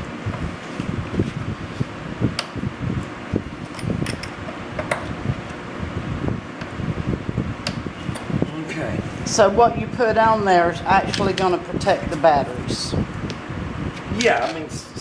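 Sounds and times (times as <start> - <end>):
fan-like whir: 0.0 - 15.0.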